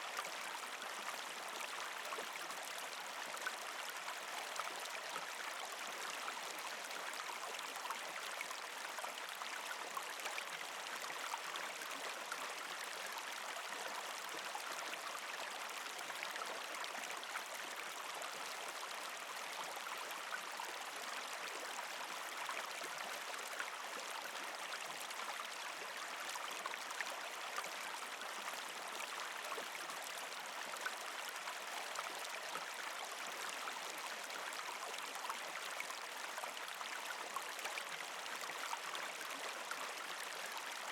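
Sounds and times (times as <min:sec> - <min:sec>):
creek water flowing over rocks: 0:00.0 - 0:40.9.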